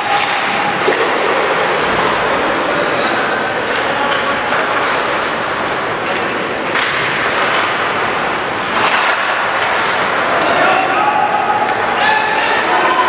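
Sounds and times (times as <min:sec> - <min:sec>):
hall hubbub: 0:00.0 - 0:13.0.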